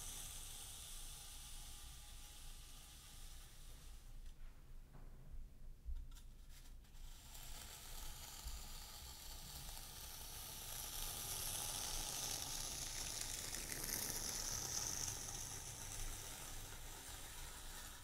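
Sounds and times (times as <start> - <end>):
high sizzling hiss: 0.0 - 4.3, 7.6 - 18.0.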